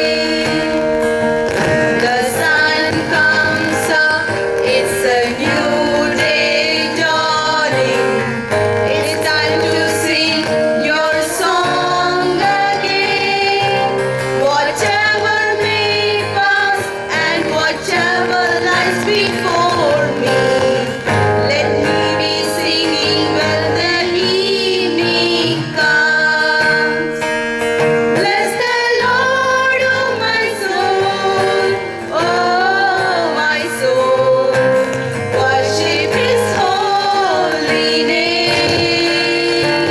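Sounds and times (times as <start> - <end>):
choir singing: 0.0 - 39.9
sustained instrumental accompaniment: 0.0 - 39.9.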